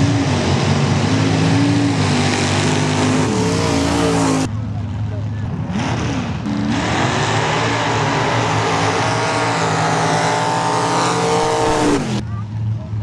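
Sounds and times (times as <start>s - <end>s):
truck engines at full throttle: 0.0s - 13.0s.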